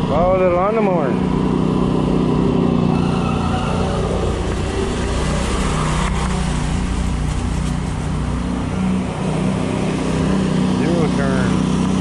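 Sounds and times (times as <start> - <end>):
steady motor drone: 0.0 - 12.0.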